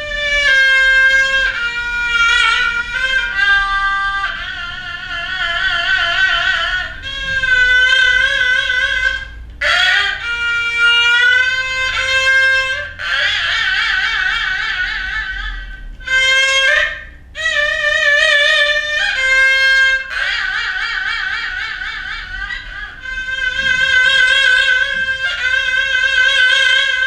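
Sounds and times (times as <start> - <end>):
bowed two-string fiddle: 0.0 - 27.0.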